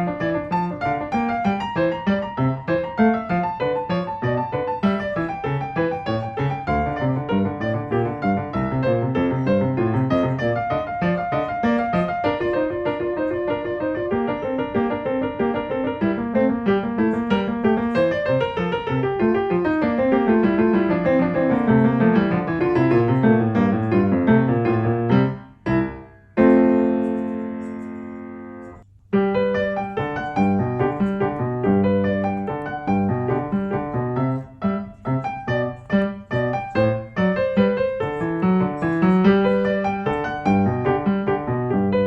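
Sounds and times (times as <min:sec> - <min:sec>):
piano music: 0:00.0 - 0:42.0.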